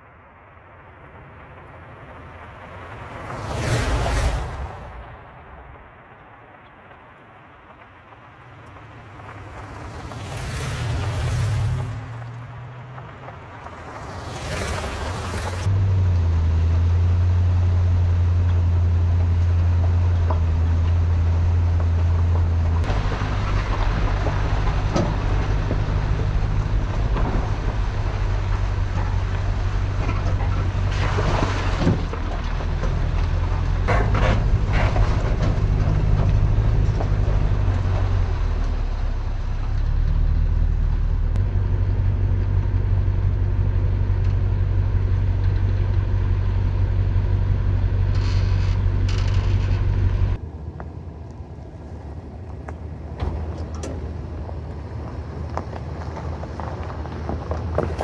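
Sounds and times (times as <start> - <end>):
vehicle rumble on road: 0.0 - 58.0.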